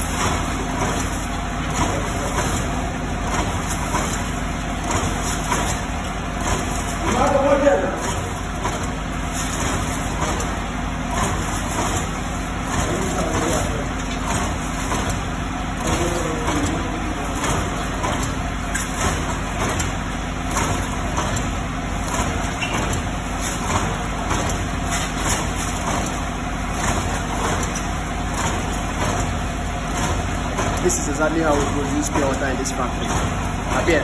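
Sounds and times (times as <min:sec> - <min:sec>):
machine humming: 0:00.0 - 0:34.0
mechanical clatter: 0:00.0 - 0:34.0.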